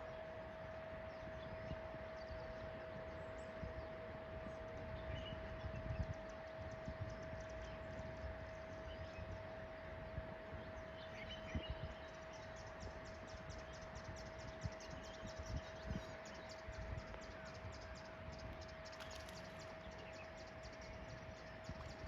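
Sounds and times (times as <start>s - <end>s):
birds chirping: 0.0s - 22.0s
steady hum: 0.0s - 22.0s.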